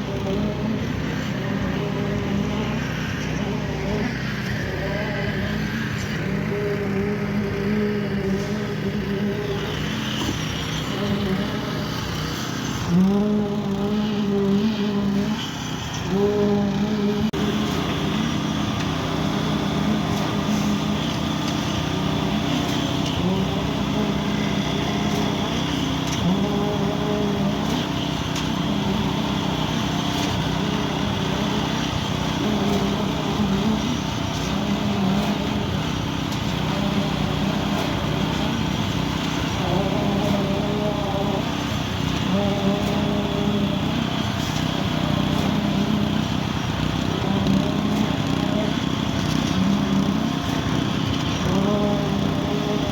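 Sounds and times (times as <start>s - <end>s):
concrete pump pumping: 0.0s - 52.9s.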